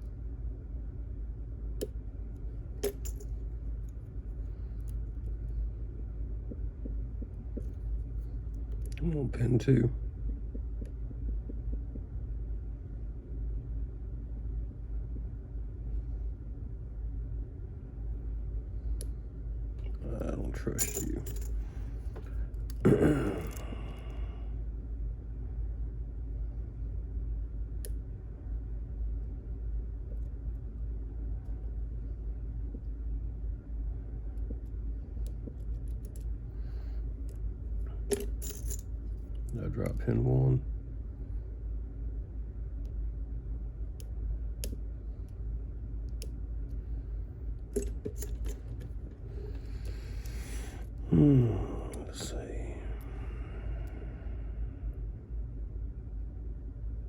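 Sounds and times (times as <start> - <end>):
steady low hum: 0.0 - 57.0
steady low rumble: 0.0 - 57.0.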